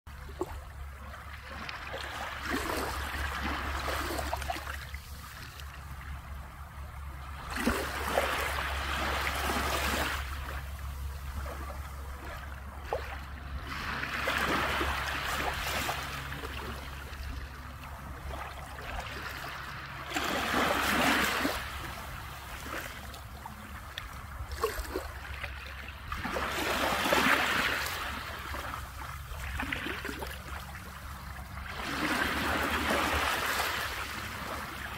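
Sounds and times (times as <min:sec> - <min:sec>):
small waves lapping on beach: 0:00.1 - 0:34.9
steady low rumble: 0:00.1 - 0:34.9.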